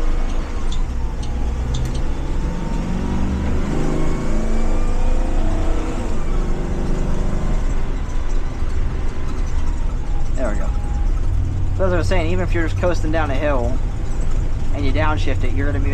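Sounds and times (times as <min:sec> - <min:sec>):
bus engine revving: 0:00.0 - 0:15.9.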